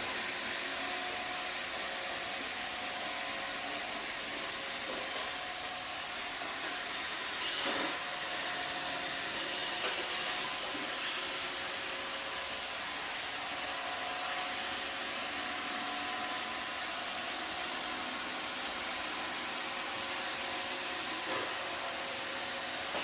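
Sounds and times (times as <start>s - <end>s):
robot floor cleaner whirring: 0.0s - 23.0s.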